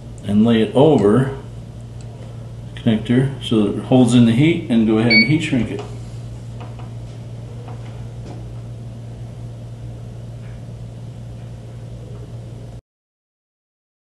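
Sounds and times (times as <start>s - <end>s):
machine low hum: 0.0s - 12.8s.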